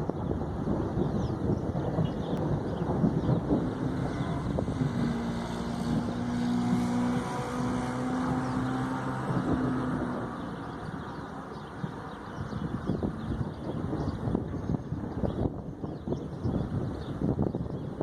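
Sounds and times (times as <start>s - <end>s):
vehicle engine humming: 0.0s - 18.0s
wind rumbling on microphone: 0.0s - 18.0s.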